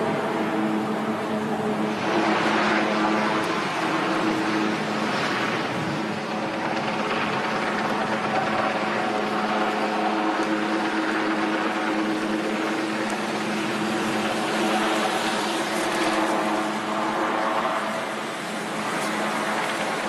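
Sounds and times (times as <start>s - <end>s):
steady droning hum: 0.0s - 20.0s.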